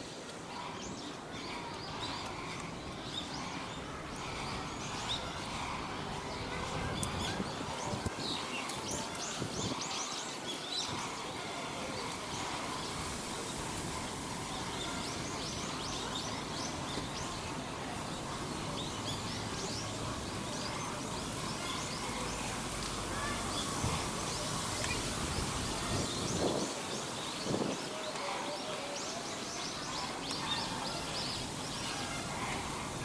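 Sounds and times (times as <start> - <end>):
outdoor ambience: 0.0 - 33.0.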